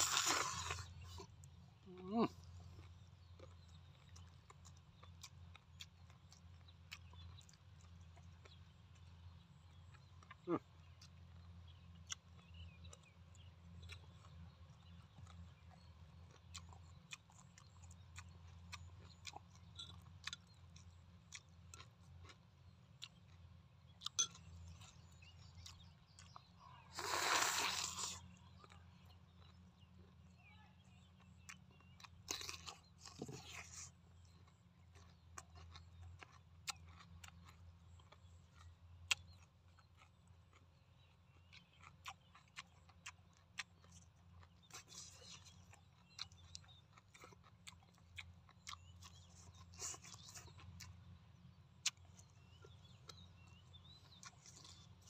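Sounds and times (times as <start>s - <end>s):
person chewing with mouth clicks: 0.0s - 30.3s, 31.1s - 55.0s
cucumber crunch: 0.0s - 55.0s.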